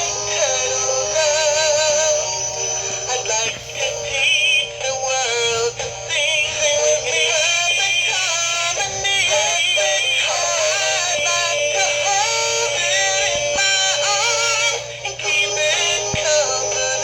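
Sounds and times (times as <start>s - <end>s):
toy speaker singing with music: 0.0s - 17.0s.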